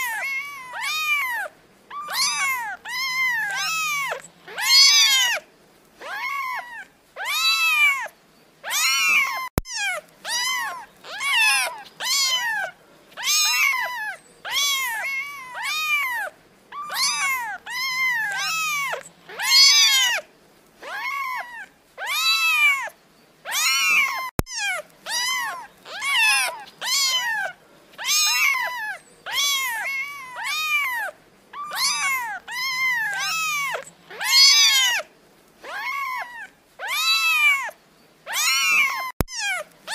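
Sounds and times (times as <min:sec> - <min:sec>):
kittens meowing: 0:00.0 - 0:20.2, 0:20.8 - 0:39.9.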